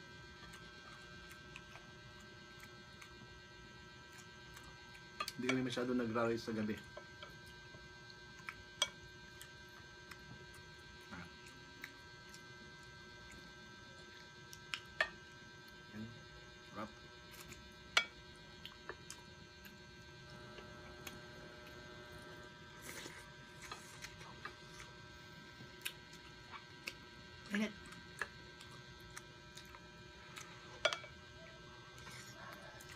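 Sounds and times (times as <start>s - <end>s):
steady electrical hum: 0.0s - 32.9s.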